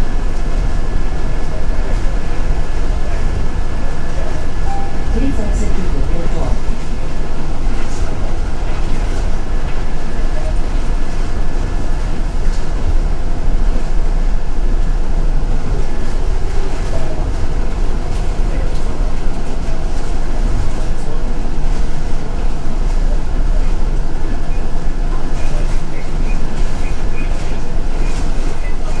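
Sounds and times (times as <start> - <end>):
bus engine rumble: 0.0 - 29.0
road noise: 0.0 - 29.0.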